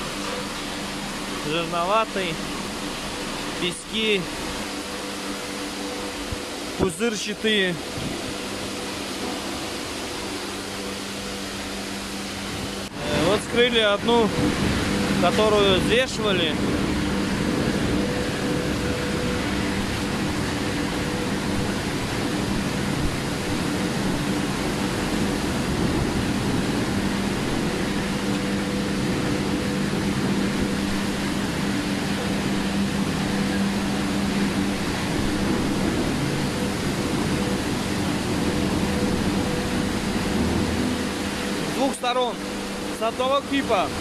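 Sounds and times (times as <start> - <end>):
low machinery hum: 0.0 - 44.0
recycling machinery rushing noise: 0.0 - 44.0.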